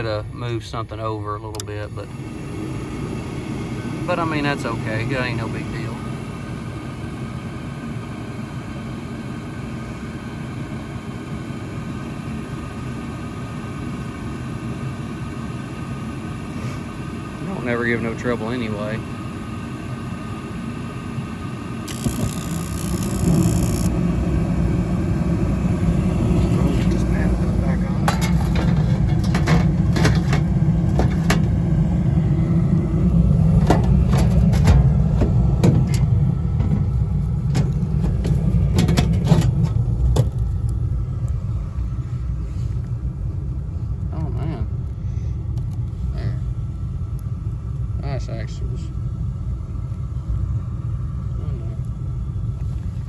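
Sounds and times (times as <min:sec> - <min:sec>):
heating equipment motor hum: 0:00.0 - 0:53.0.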